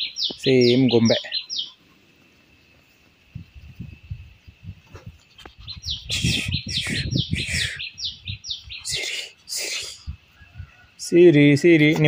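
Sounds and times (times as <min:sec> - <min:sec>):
bird chirping rapidly: 0:00.0 - 0:01.9, 0:03.3 - 0:11.8.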